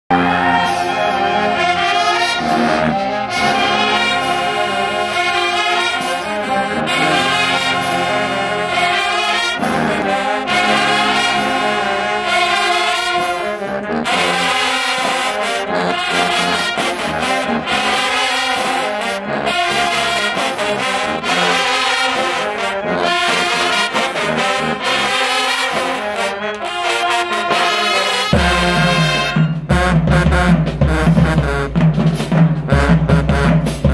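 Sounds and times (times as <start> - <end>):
heavy low brass part: 0.1 - 33.9
marching band brass playing: 0.1 - 33.9.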